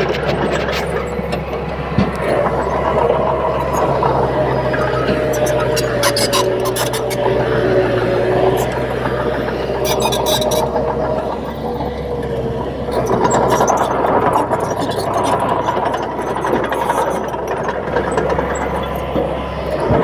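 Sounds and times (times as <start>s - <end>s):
bulldozer engine running: 0.0s - 20.0s.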